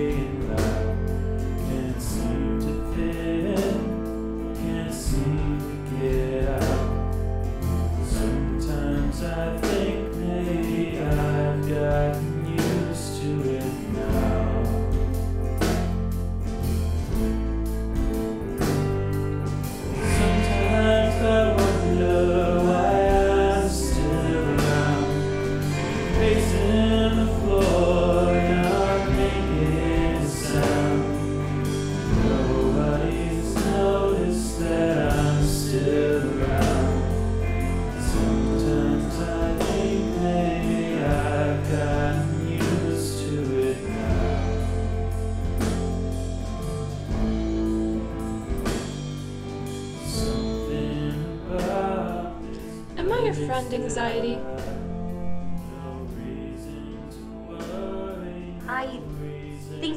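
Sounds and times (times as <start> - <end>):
song with vocals and beat: 0.0 - 47.2, 47.8 - 59.9.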